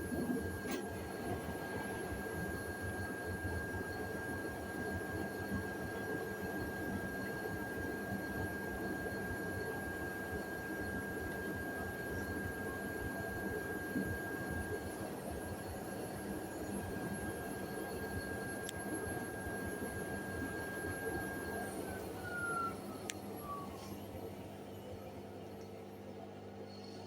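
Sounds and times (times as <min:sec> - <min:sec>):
washing machine low hum: 0:00.0 - 0:07.1, 0:10.6 - 0:27.0.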